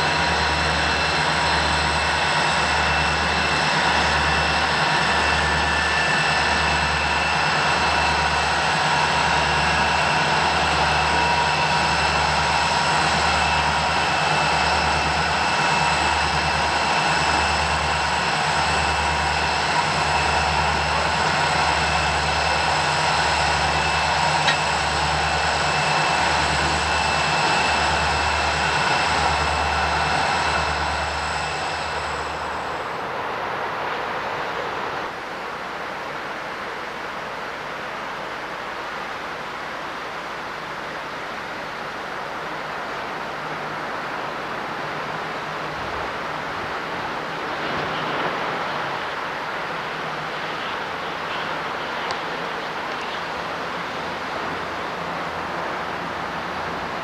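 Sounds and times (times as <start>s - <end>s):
locomotive engine whine and throb: 0.0s - 57.0s
steady rushing noise: 0.0s - 57.0s.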